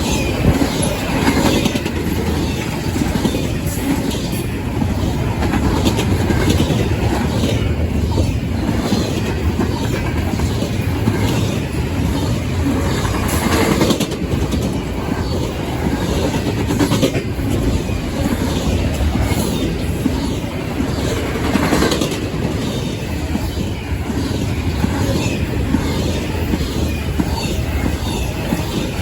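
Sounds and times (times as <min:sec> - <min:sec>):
freight train rumbling past: 0:00.0 - 0:29.0
wheels clicking over rail joints: 0:00.0 - 0:29.0.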